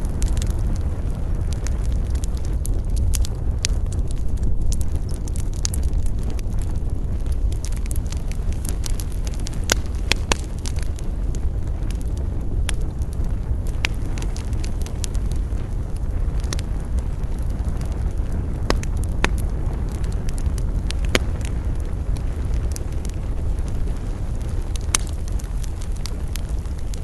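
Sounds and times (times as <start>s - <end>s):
campfire crackling and popping: 0.0s - 27.0s
low rumble: 0.0s - 27.0s.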